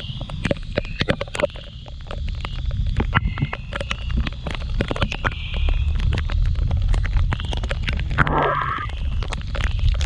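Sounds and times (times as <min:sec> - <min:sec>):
raindrops ticking on microphone: 0:00.0 - 0:10.0
wind: 0:00.0 - 0:10.0.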